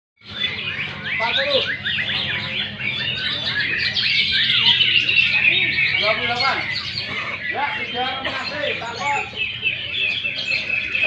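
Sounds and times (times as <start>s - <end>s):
songbirds chirping and trilling: 0.2s - 11.0s.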